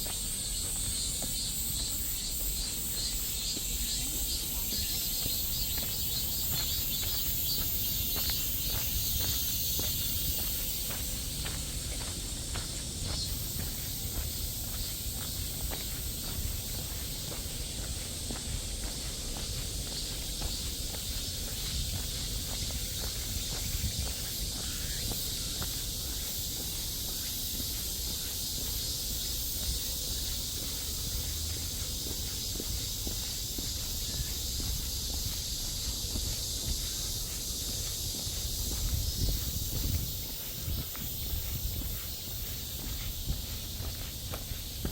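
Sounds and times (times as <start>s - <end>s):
cicada chorus drone: 0.0s - 44.9s
footsteps on a path: 0.0s - 44.9s
insects chirping: 0.0s - 44.9s
low rumble from walking: 0.0s - 44.9s.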